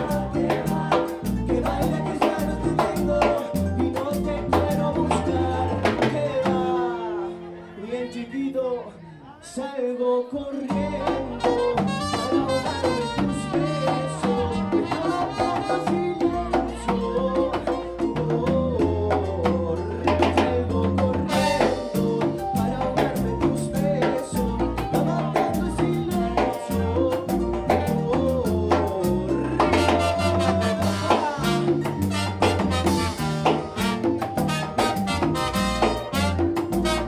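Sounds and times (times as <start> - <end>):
latin dance band music: 0.0 - 37.0.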